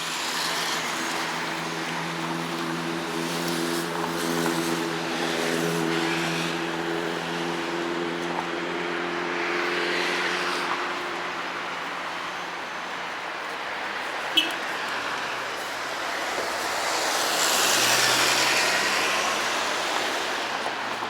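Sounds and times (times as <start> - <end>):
wind or road noise hiss: 0.0 - 21.0.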